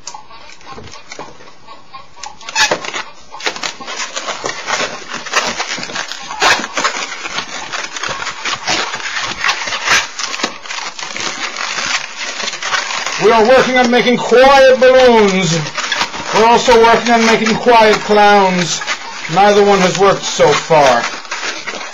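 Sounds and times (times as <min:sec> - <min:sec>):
balloon squeaking: 0:02.2 - 0:21.9.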